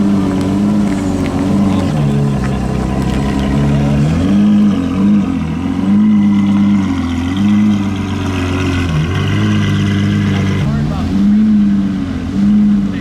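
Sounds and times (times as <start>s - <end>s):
car engine revving lightly: 0.0s - 13.0s.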